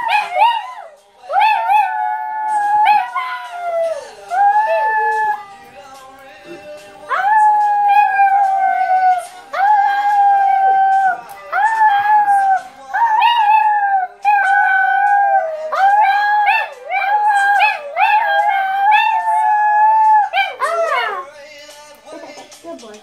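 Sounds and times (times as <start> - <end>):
small dog howling: 0.0 - 5.4, 7.1 - 21.2
song playing: 0.0 - 23.0.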